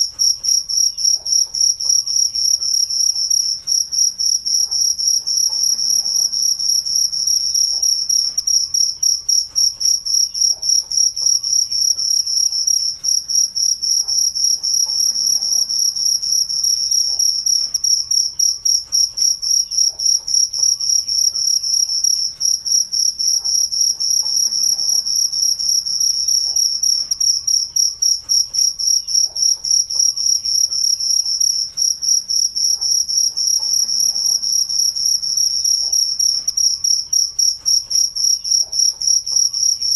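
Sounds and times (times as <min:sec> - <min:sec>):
cricket chirping trill: 0:00.0 - 0:39.9.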